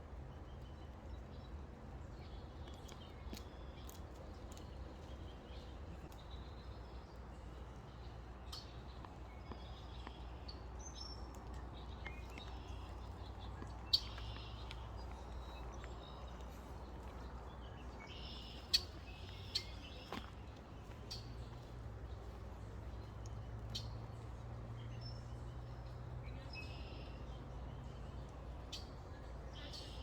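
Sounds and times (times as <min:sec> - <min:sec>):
low steady rumble: 0:00.0 - 0:30.0
small birds chirping: 0:00.2 - 0:30.0.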